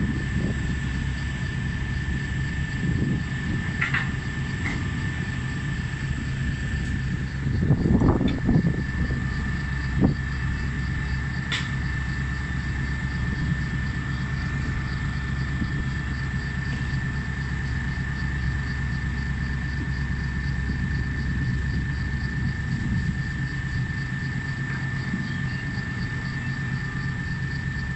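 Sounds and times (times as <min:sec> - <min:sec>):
excavator diesel engine running: 0:00.0 - 0:27.9
high hydraulic whine: 0:00.0 - 0:27.9.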